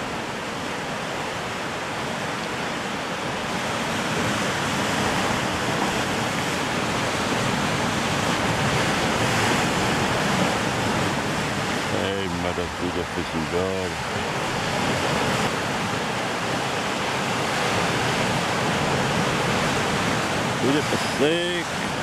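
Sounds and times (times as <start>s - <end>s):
surf breaking on rocks: 0.0s - 22.0s.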